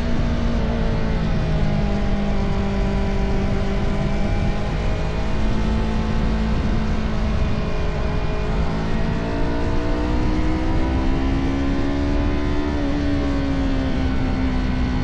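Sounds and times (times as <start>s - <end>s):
motorcycle engine accelerating: 0.0s - 15.0s
wind rushing: 1.4s - 13.6s.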